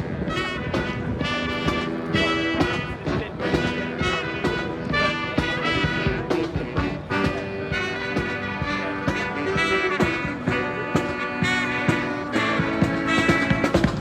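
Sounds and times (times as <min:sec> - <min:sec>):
brass and bugles playing: 0:00.0 - 0:14.0
steady drum beat: 0:00.0 - 0:14.0.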